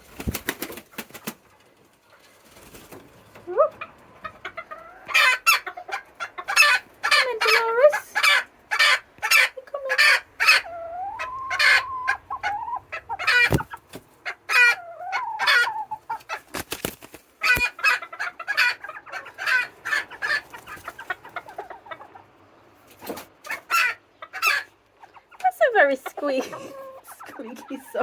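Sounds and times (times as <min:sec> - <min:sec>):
chickens clucking and calling: 0:00.0 - 0:28.0.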